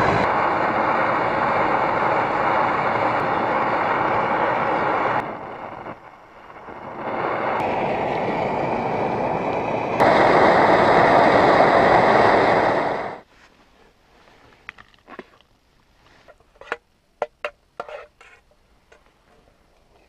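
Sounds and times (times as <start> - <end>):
camping stove burning: 0.0 - 20.0.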